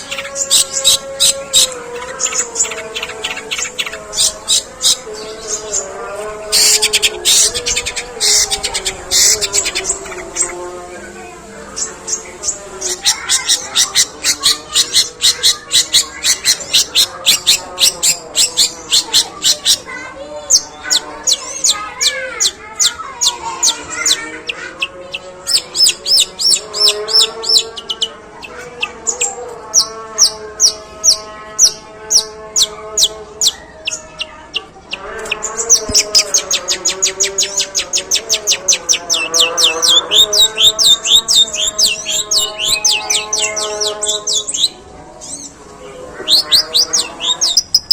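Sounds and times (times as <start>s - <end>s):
harsh low bird chatter: 0.0s - 47.9s.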